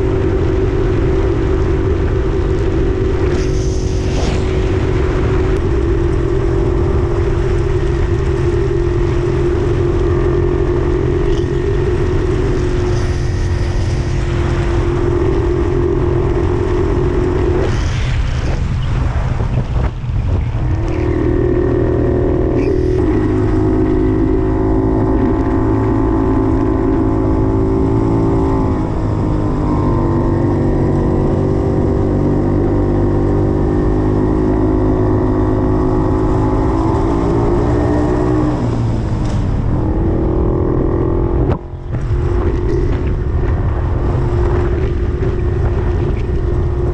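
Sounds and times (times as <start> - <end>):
two-stroke motorcycle engine running: 0.0 - 17.9, 20.5 - 46.9
wind rushing over microphone: 0.0 - 46.9.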